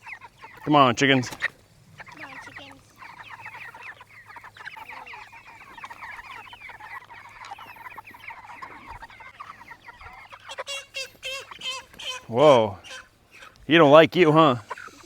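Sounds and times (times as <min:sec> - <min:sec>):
chickens chirping and clucking: 0:00.0 - 0:15.0.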